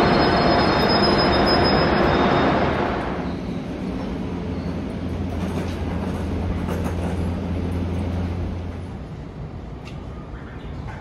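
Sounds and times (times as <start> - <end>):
electric train humming: 0.0 - 9.8.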